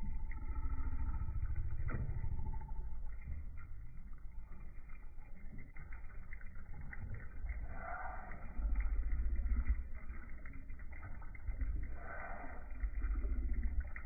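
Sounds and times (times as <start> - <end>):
deep warbling rumble: 0.0 - 14.0.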